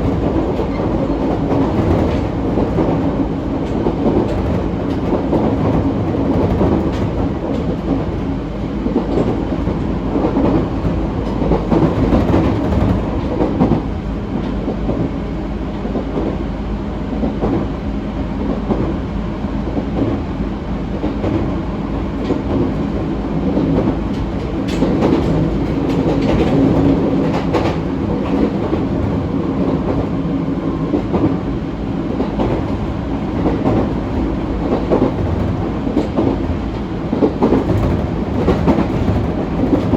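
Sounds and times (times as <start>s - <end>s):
wheels rumbling on rail: 0.0s - 39.9s.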